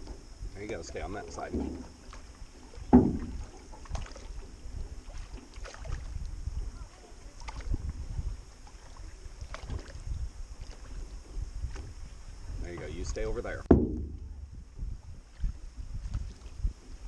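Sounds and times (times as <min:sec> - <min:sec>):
paddle strokes splashing: 0:00.0 - 0:13.7, 0:15.0 - 0:16.8
low steady rumble: 0:00.0 - 0:17.0.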